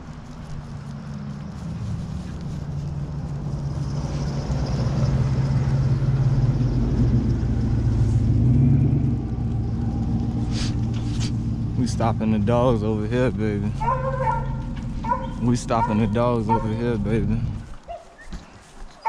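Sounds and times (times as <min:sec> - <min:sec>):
truck engine approaching: 0:00.0 - 0:17.9.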